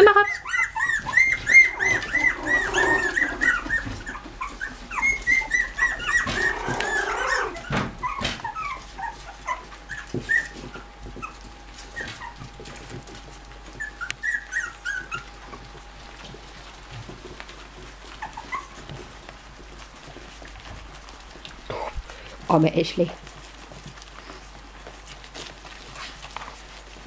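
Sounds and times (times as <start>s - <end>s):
puppies whimpering and squeaking: 0.0s - 22.6s, 23.2s - 27.0s.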